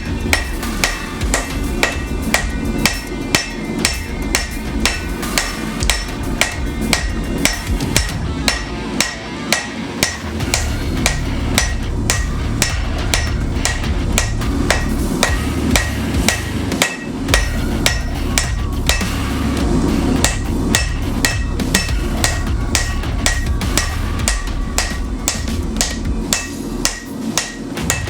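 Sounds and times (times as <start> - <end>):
low steady rumble: 0.0 - 9.1, 9.9 - 28.0
hammer striking steel on anvil: 0.0 - 28.0.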